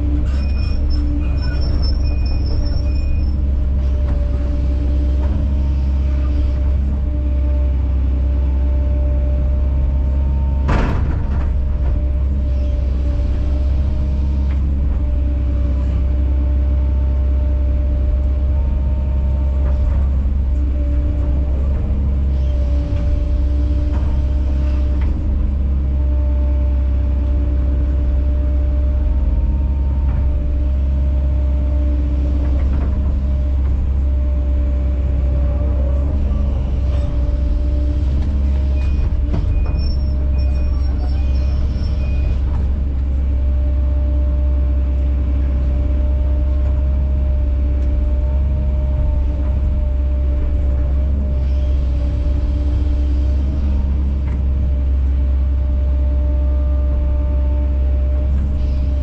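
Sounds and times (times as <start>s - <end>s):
excavator diesel engine rumbling: 0.0s - 59.0s.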